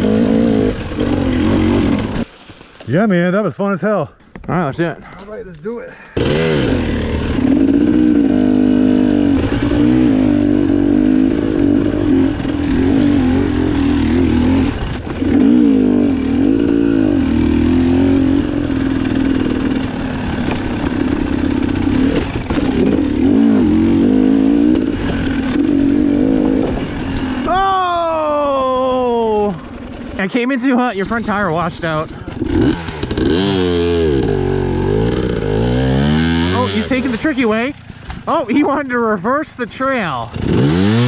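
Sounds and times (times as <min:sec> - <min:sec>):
dirt bike engine revving: 0:00.0 - 0:02.3, 0:06.2 - 0:41.0.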